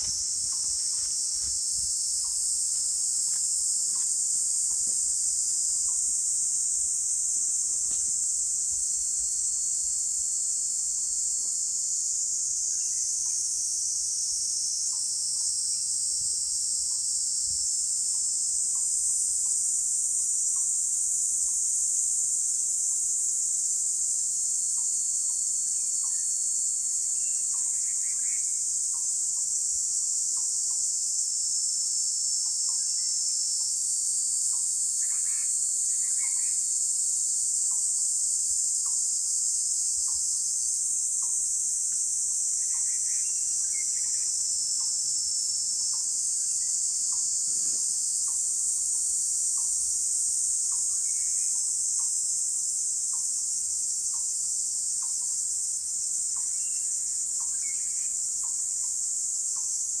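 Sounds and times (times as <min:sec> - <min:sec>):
crickets trilling: 0:00.0 - 1:00.0.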